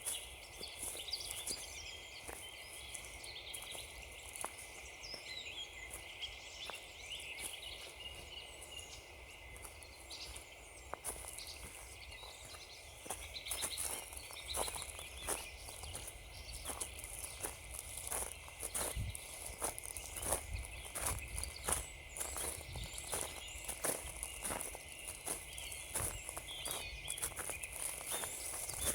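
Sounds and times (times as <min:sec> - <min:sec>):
footsteps crunching on frozen ground: 0:00.0 - 0:28.9
small birds chirping and singing: 0:00.0 - 0:28.9.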